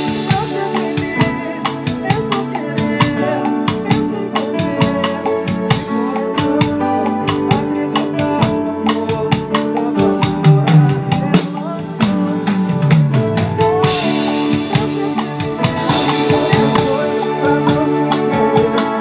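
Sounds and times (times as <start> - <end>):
drum kit played with sticks: 0.0 - 19.0.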